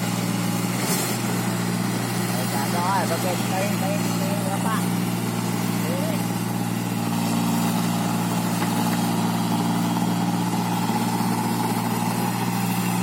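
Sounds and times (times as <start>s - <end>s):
machine engine humming: 0.0s - 13.0s.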